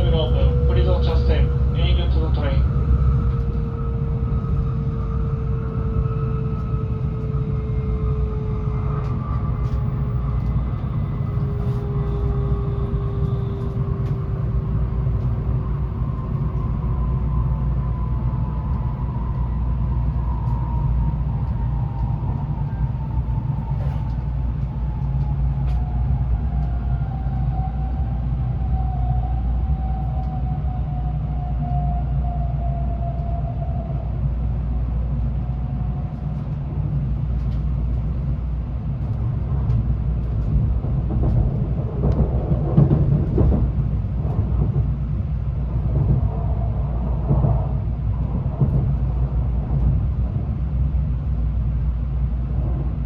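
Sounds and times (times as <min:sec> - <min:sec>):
train rumble from inside: 0:00.0 - 0:53.0.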